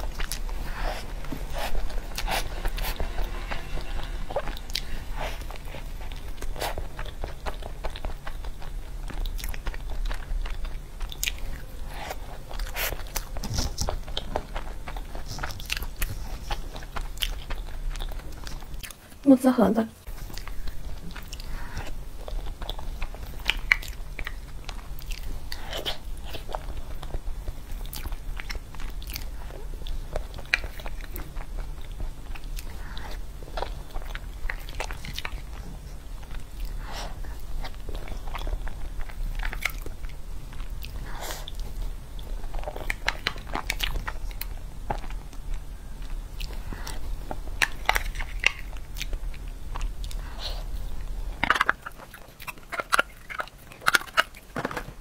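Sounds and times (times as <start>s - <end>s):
low steady hum: 0.0s - 55.0s
wet chewing and lip smacks: 6.0s - 19.0s, 20.2s - 54.5s.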